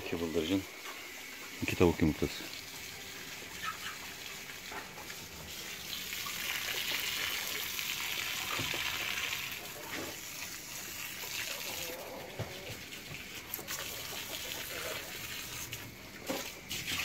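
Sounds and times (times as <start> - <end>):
hose water splashing into basin: 0.0 - 17.0.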